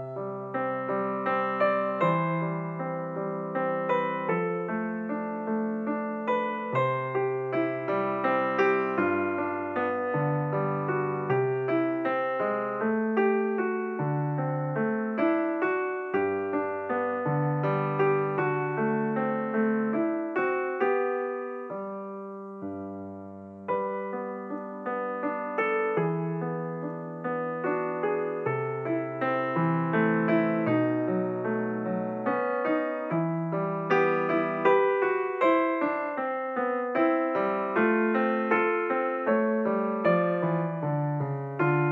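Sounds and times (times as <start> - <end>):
gentle piano music: 0.0 - 41.9.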